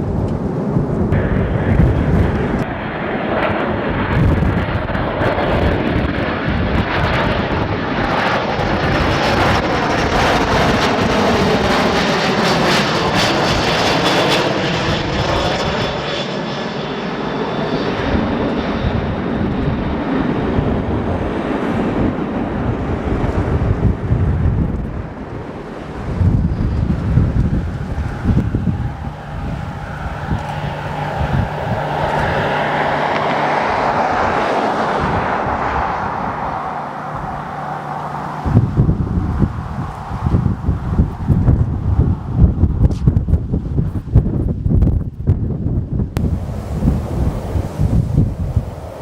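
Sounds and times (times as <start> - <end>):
airliner passing overhead: 0.0 - 49.0.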